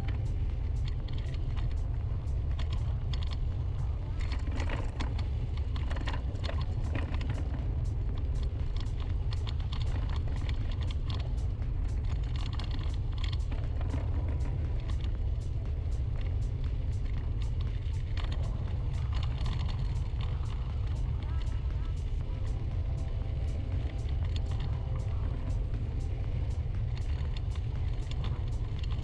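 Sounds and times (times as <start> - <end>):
scooter low rumble: 0.0 - 29.0.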